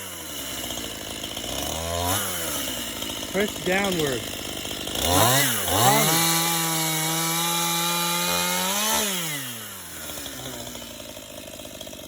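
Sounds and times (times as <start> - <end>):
chainsaw revving and idling: 0.0 - 12.0.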